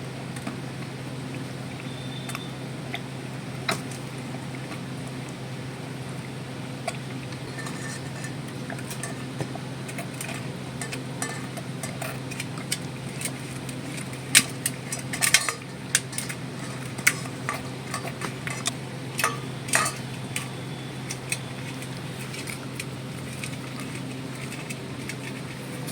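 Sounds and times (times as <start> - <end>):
cow munching feed: 0.0 - 25.9
steady low hum: 0.0 - 25.9.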